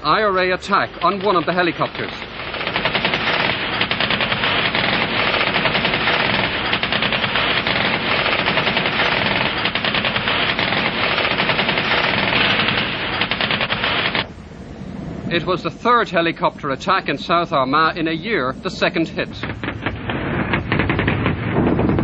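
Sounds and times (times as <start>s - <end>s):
automatic machine-gun fire: 0.0s - 14.4s, 18.7s - 22.0s.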